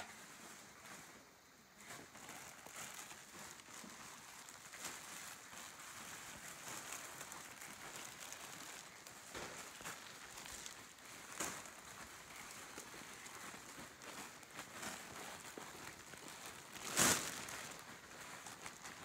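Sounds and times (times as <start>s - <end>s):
plastic sheeting crinkling: 0.0s - 19.0s.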